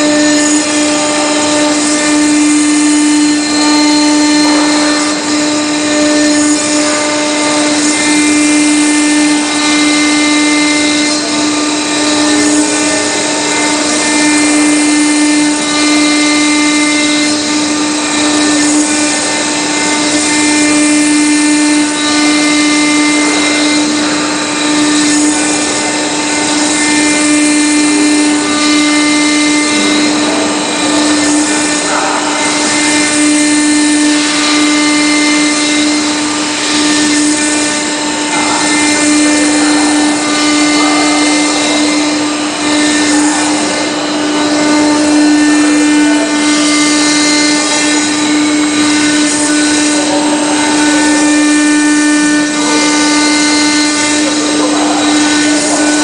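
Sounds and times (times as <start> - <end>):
spindle humming and whining: 0.0 - 56.0.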